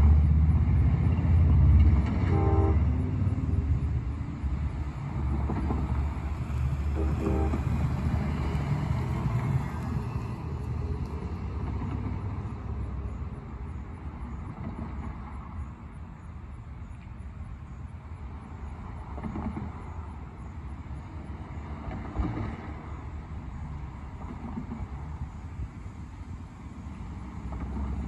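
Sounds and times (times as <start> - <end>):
railcars rumbling on track: 0.0 - 28.0.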